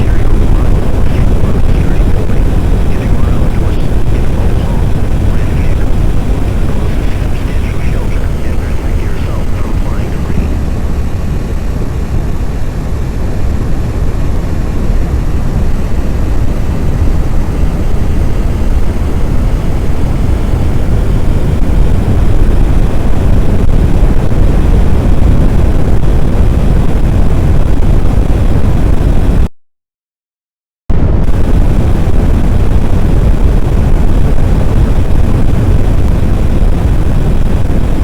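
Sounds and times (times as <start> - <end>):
wind buffeting microphone: 0.0 - 29.5, 30.9 - 38.0.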